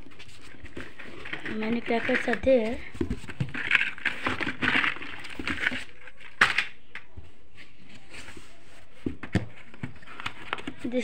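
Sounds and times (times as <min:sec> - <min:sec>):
cardboard packets rustling: 0:00.0 - 0:06.6, 0:07.3 - 0:11.0.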